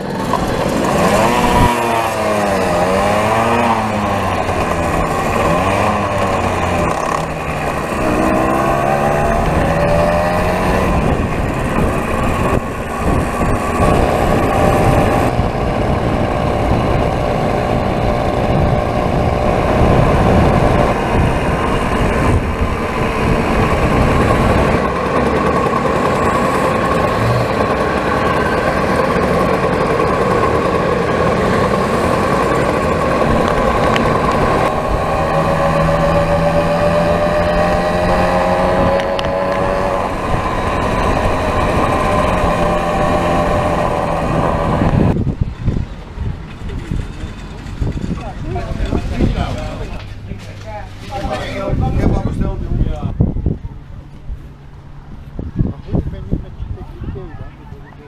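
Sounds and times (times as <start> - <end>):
moped engines running: 0.0 - 58.0
wind over microphone: 0.0 - 58.0.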